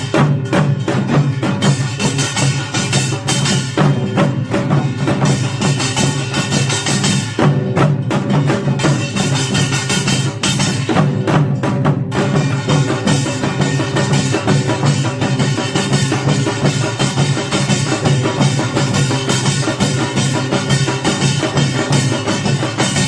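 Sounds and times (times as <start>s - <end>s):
percussion ensemble drums and gongs: 0.0s - 23.0s.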